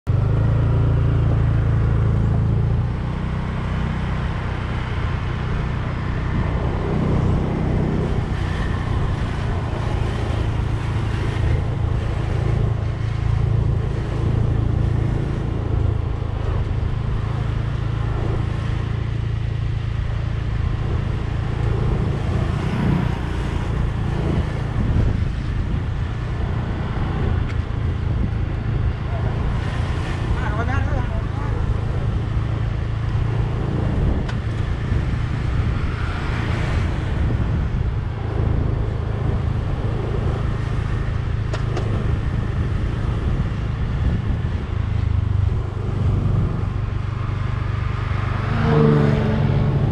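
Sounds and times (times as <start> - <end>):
road and tyre noise: 0.0 - 49.9
vehicle engine droning: 0.0 - 49.9.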